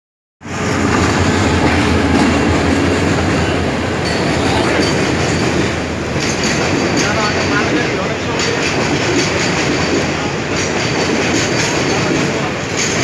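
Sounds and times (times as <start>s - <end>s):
freight train wheels rumbling: 0.4s - 13.0s.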